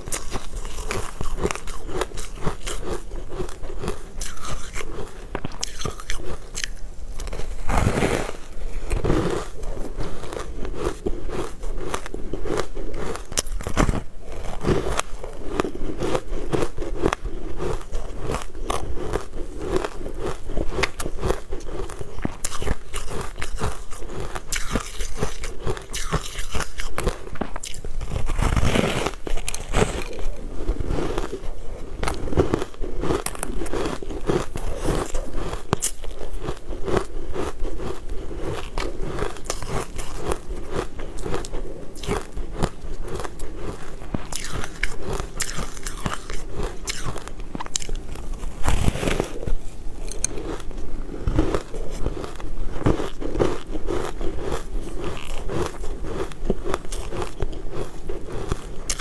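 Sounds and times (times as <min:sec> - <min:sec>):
crunching and chewing ice: 0:00.0 - 0:59.0.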